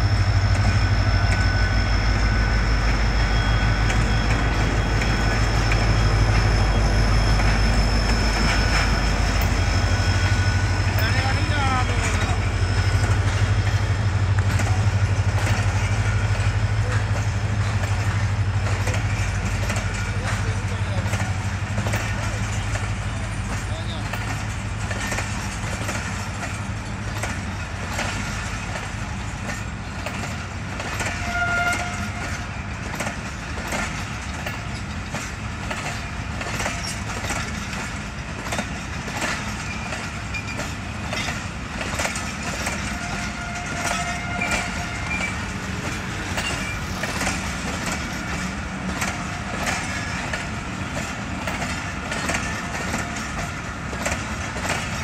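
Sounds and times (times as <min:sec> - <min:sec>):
train wheels knocking over rail joints: 0:00.0 - 0:55.0.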